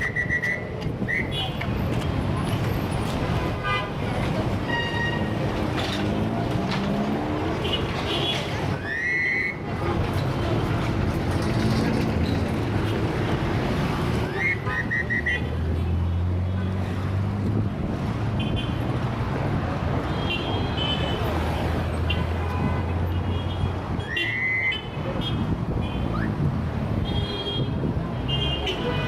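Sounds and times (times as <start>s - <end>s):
heavy city traffic: 0.0s - 29.0s.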